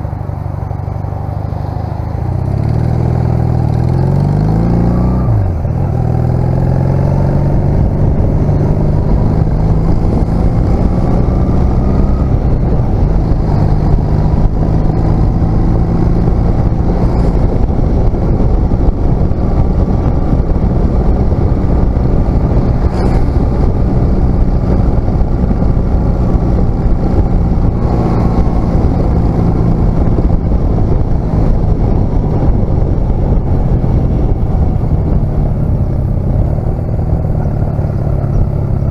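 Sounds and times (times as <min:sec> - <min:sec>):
road noise: 0:00.0 - 0:38.9
wind noise: 0:00.0 - 0:38.9
motorcycle engine pulling away: 0:02.3 - 0:38.9.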